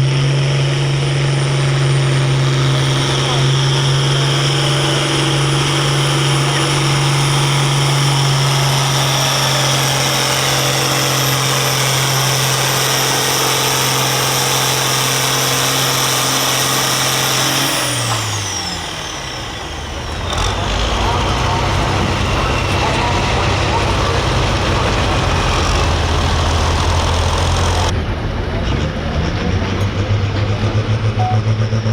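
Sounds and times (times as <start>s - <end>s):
tractor engine at high revs: 0.0s - 31.9s.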